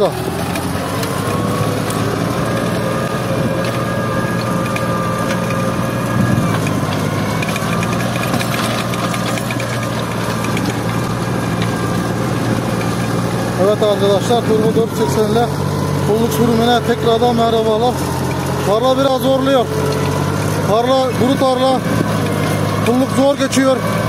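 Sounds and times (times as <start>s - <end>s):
tractor diesel engine labouring: 0.0s - 24.0s.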